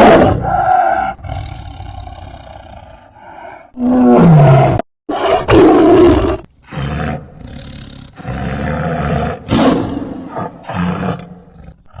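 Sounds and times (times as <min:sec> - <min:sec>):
tiger roaring: 0:00.0 - 0:12.0.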